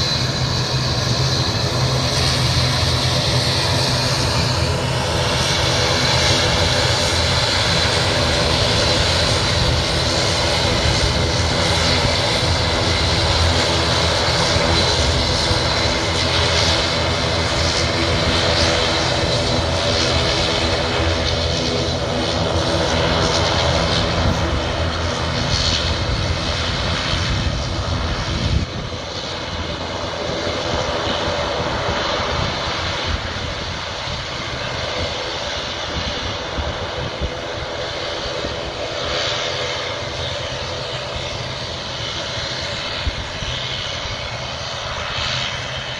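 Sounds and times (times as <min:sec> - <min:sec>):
turboprop engines droning: 0:00.0 - 0:45.9.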